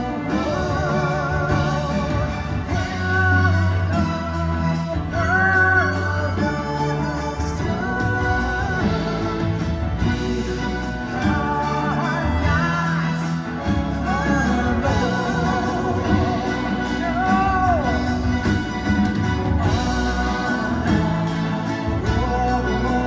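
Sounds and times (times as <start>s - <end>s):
live band playing: 0.0s - 23.0s
person singing: 0.0s - 23.0s.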